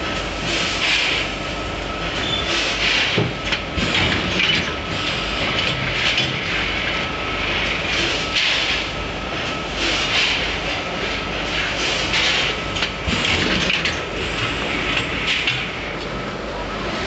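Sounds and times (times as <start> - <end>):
packing machine clatter: 2.0 - 16.2.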